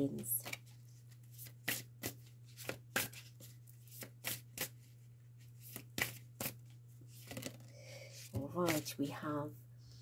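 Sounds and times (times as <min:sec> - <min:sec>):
cards being shuffled: 0:00.4 - 0:08.9.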